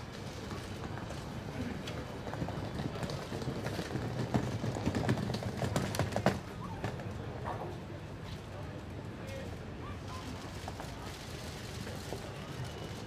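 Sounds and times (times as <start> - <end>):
crowd bustle: 0.0 - 13.0.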